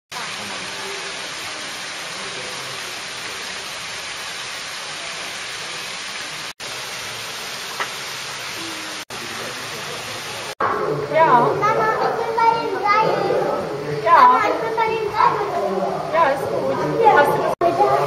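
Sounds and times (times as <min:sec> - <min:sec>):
steady rushing hiss: 0:00.1 - 0:18.0.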